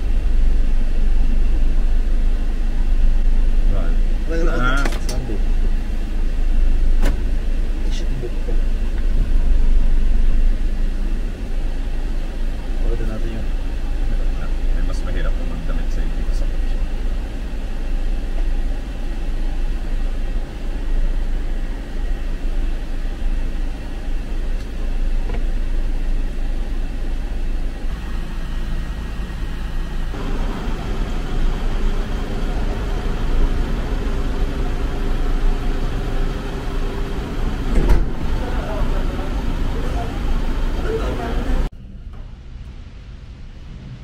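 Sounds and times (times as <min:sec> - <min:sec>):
van engine idling: 0:00.0 - 0:44.0.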